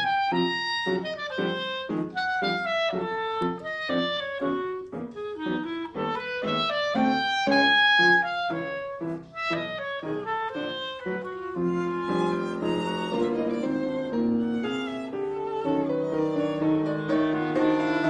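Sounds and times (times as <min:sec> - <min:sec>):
clarinet melody: 0:00.0 - 0:18.0.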